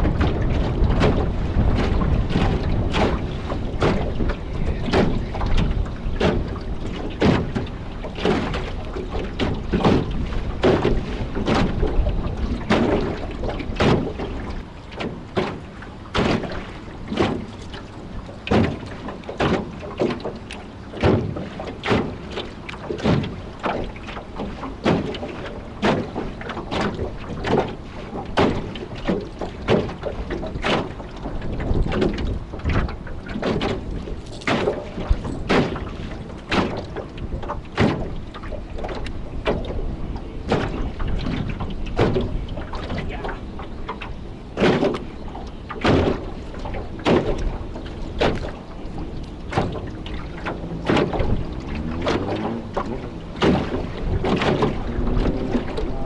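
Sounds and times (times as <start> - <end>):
waves slapping against boat: 0.0 - 56.0
wind buffeting microphone: 0.0 - 56.0.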